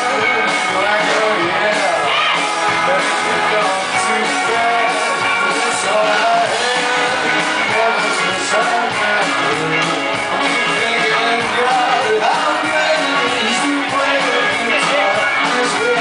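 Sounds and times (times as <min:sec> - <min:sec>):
electric guitars: 0:00.0 - 0:16.0
keyboard: 0:00.0 - 0:16.0
man singing: 0:00.0 - 0:16.0.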